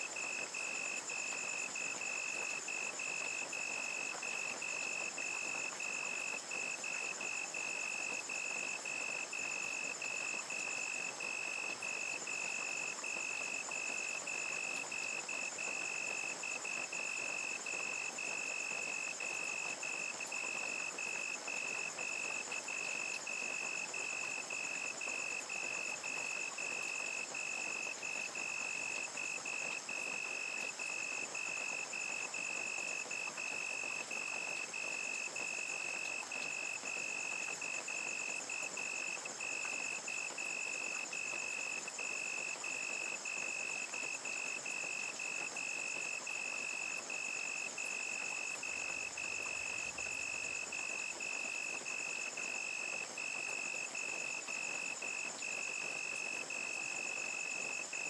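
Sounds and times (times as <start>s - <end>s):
crickets chirping: 0.0s - 58.0s
steady rain hiss: 0.0s - 58.0s.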